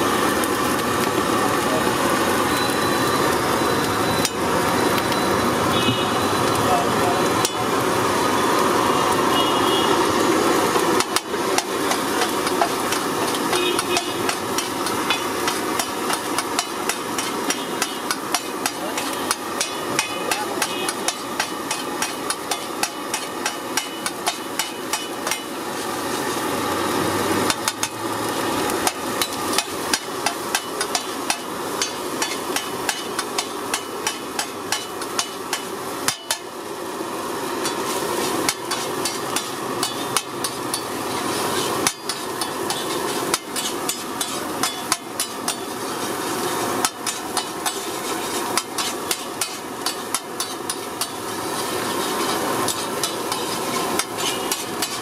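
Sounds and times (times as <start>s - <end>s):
steady hiss: 3.1s - 55.0s
metal utensils clanking on griddle: 4.1s - 5.2s, 7.3s - 7.7s, 11.0s - 36.6s, 37.3s - 55.0s.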